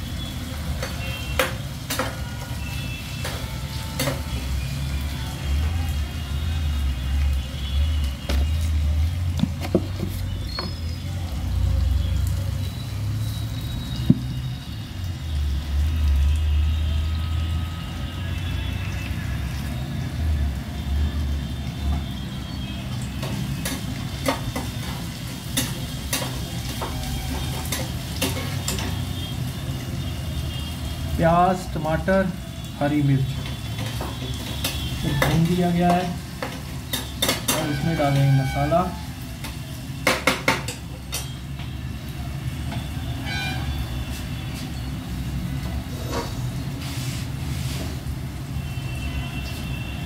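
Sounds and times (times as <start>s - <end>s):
food sizzling: 0.0s - 50.0s.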